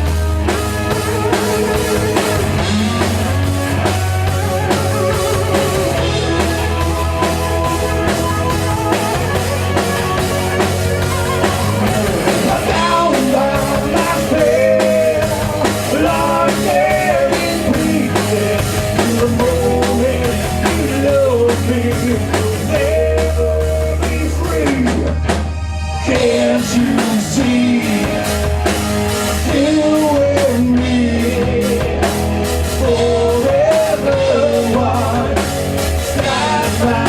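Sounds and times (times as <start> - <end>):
live rock band playing: 0.0 - 37.0.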